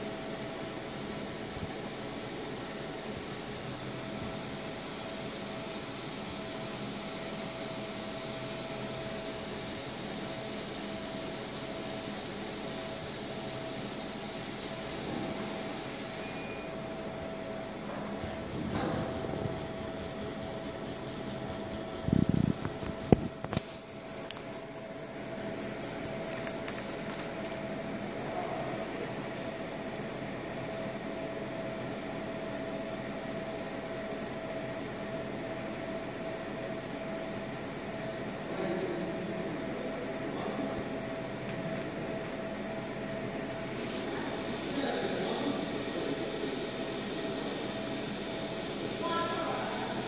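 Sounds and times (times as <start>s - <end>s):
faint whine: 0.0s - 50.0s
machine fan hum: 0.0s - 50.0s.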